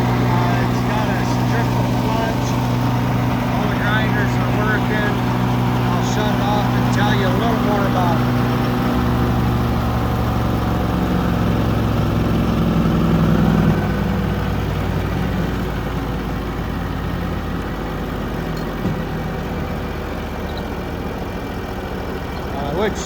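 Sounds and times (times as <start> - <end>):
chipper shredder engine running: 0.0 - 23.0.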